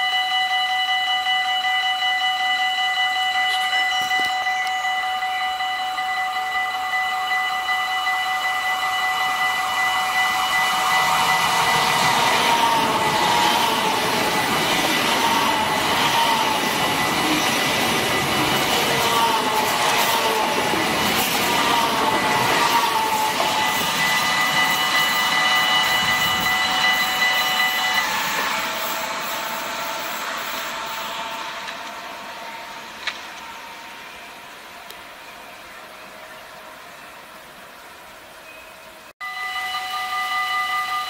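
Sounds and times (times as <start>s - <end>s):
high-speed train whine: 0.0s - 41.0s
wheels rushing on rails: 2.8s - 38.6s.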